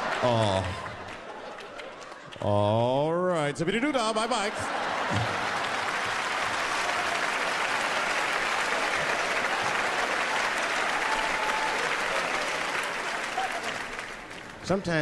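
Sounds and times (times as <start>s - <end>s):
audience applauding: 0.0s - 2.8s, 4.2s - 15.0s.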